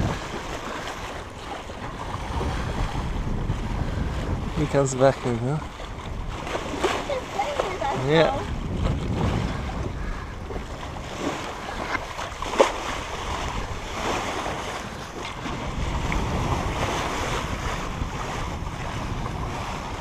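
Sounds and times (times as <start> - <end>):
water rushing along a boat hull: 0.0 - 20.0
wind buffeting microphone: 0.0 - 20.0.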